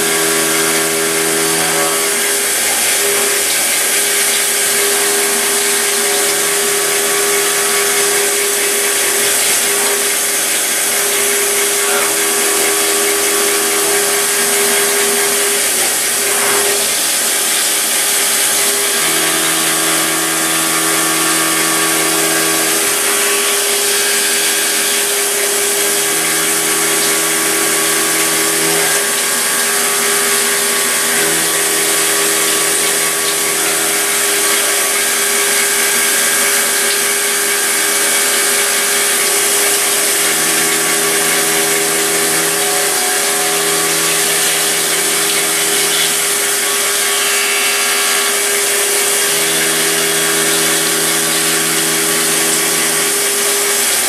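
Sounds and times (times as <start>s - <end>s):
machine axis motor tones: 0.0s - 54.0s
milling machine cutting hiss: 0.0s - 54.0s.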